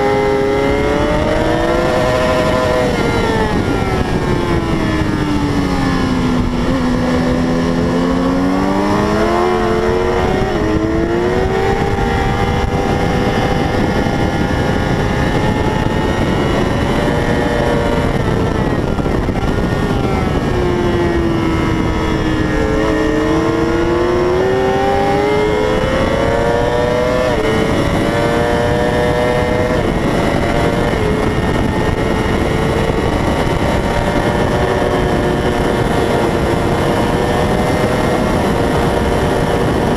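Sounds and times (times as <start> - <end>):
heavy wind rush: 0.0 - 39.9
racing motorcycle engine: 0.0 - 39.9.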